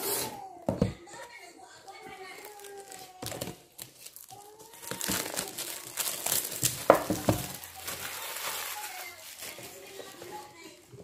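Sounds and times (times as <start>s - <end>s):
plastic wrap crinkling: 1.2s - 11.0s.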